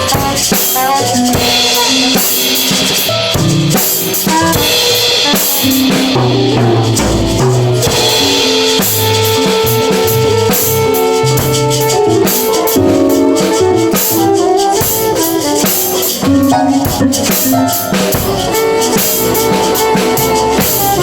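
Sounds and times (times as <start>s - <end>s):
drum kit with cymbals: 0.0s - 21.0s
held instrument notes: 0.0s - 21.0s
bass line: 1.0s - 21.0s.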